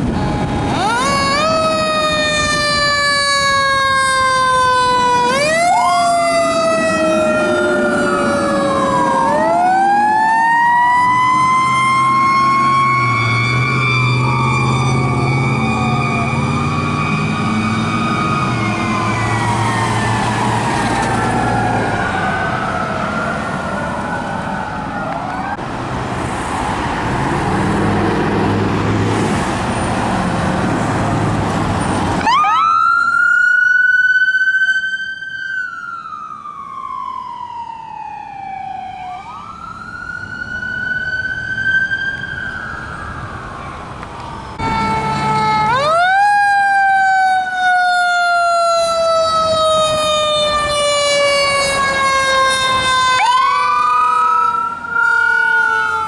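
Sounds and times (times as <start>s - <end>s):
fire engine sirens wailing: 0.0s - 56.0s
passing traffic: 0.0s - 56.0s.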